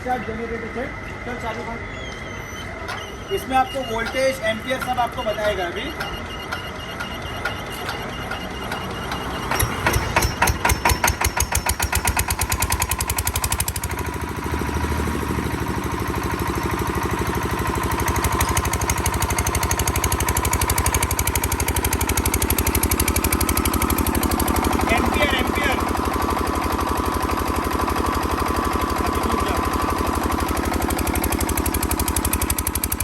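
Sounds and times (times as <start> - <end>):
diesel generator engine starting: 0.0 - 33.0.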